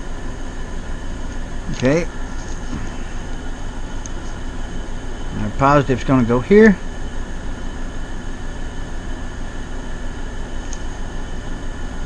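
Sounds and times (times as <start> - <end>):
air conditioners humming: 0.0 - 12.0.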